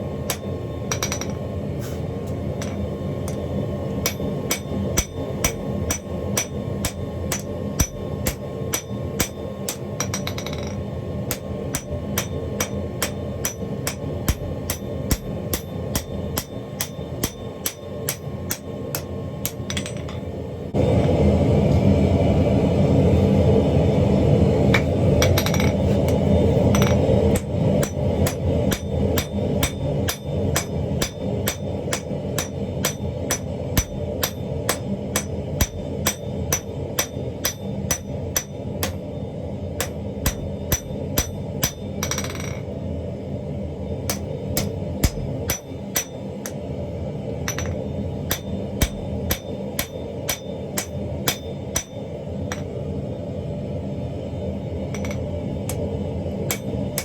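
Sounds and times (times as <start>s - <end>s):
steady low rumble: 0.0s - 57.0s
hammer striking steel on anvil: 0.2s - 1.5s, 2.5s - 20.3s, 24.7s - 42.7s, 44.1s - 46.7s, 47.5s - 52.8s, 55.0s - 57.0s.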